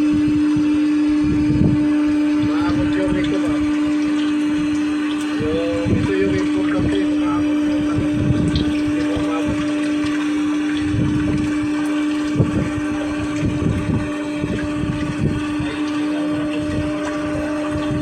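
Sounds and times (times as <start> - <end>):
winch gearbox humming: 0.0 - 18.0.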